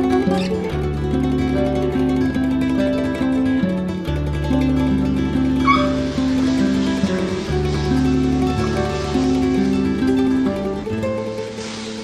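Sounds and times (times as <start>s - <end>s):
plucked guitar melody: 0.0s - 12.0s.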